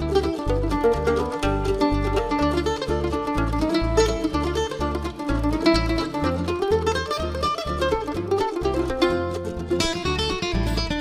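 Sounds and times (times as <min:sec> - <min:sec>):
acoustic guitar instrumental: 0:00.0 - 0:11.0
bass line: 0:00.0 - 0:11.0.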